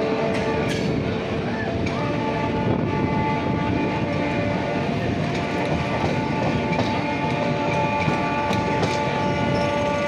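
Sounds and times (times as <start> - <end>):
electric train rumbling and rattling: 0.0 - 10.0.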